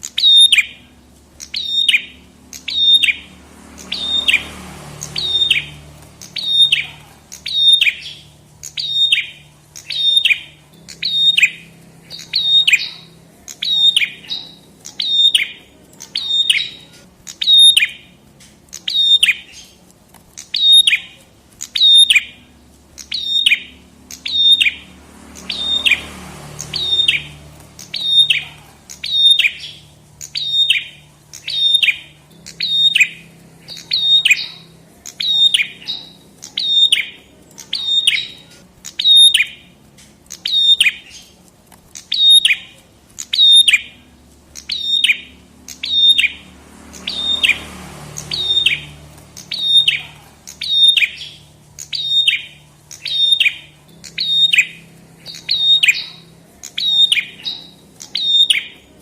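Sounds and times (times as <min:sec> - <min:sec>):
songbird calling: 0:00.0 - 0:59.0.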